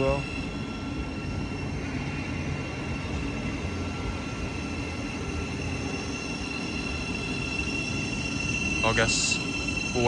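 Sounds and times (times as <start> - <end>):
train humming: 0.0 - 10.0.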